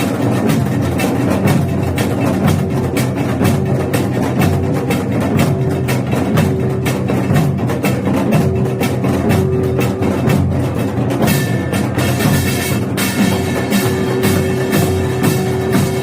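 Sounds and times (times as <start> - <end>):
drum and gong percussion ensemble: 0.0 - 16.0.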